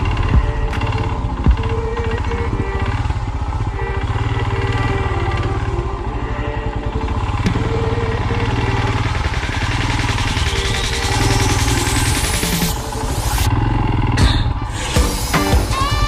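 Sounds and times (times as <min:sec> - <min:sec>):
engine knock: 0:00.0 - 0:06.0, 0:07.0 - 0:16.0
motorcycle engine running: 0:00.0 - 0:16.0.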